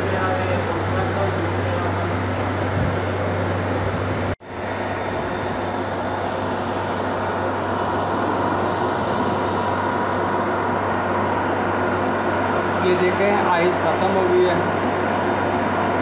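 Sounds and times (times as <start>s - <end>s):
refrigeration compressor humming: 0.0s - 16.0s.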